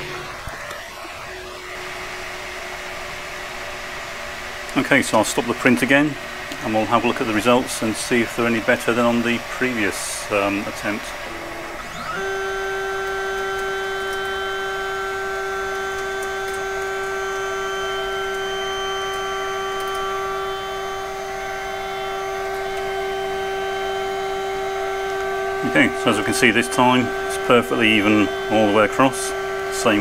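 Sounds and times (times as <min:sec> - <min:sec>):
stepper motor whine: 0:00.0 - 0:30.0.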